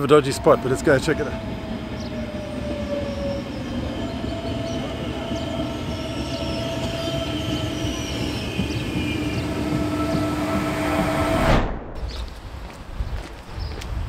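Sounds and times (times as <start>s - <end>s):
train wheels rumbling on rail: 0.0s - 11.5s.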